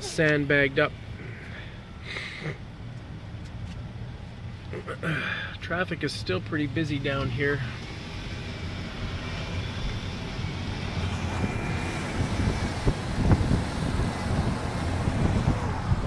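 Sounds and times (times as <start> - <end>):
car driving in traffic: 0.0 - 16.0.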